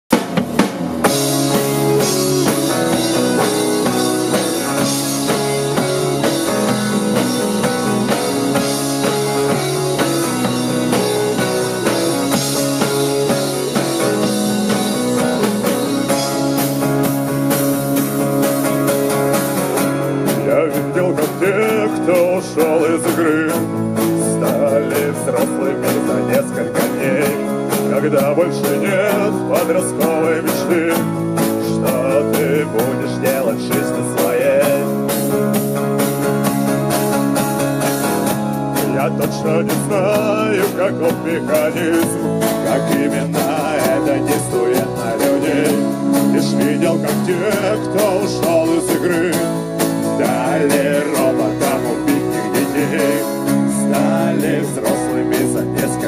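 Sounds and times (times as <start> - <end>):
bass guitar: 0.0 - 56.0
drum kit with cymbals: 0.1 - 56.0
electric guitar: 0.1 - 56.0
strummed acoustic guitar: 0.1 - 56.0
person singing: 1.4 - 16.9, 20.2 - 35.2, 38.8 - 56.0.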